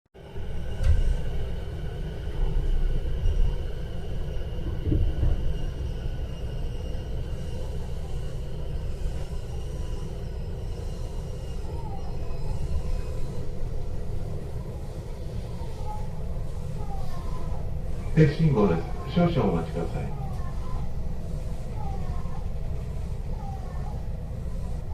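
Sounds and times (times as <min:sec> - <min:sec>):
train rumbling on rails: 0:00.2 - 0:24.9.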